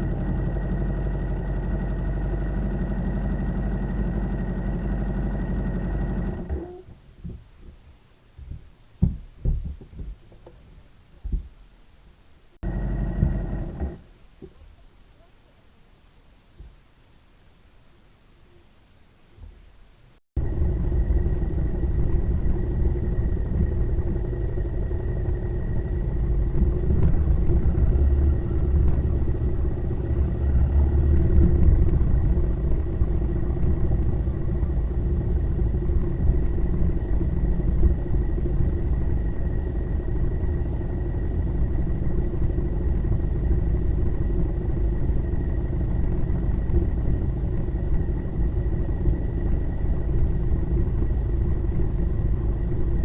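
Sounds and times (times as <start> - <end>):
vehicle engine and road rumble: 0.0 - 11.7, 12.6 - 14.6, 20.4 - 53.0.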